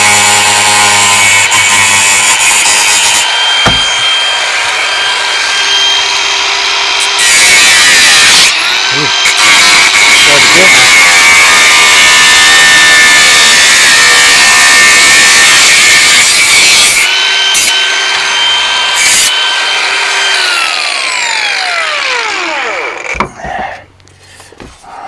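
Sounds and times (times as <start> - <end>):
grinder disc whining: 0.0 - 16.1, 16.9 - 23.5
angle grinder grinding: 0.0 - 23.8.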